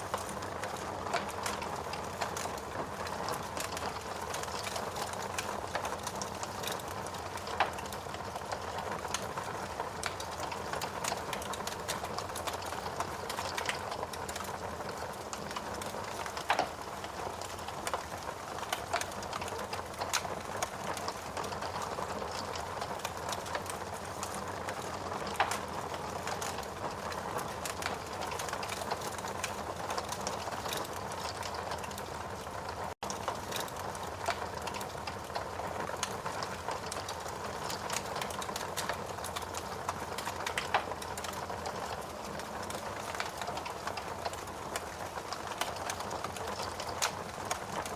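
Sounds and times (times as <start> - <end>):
steady rain: 0.0 - 47.9
wood fire crackling: 0.0 - 47.9.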